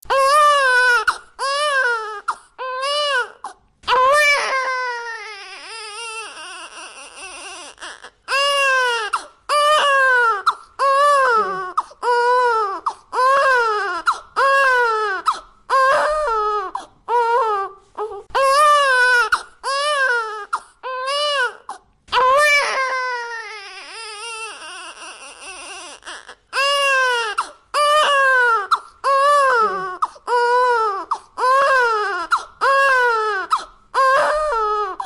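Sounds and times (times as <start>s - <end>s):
baby crying: 0.1s - 35.0s.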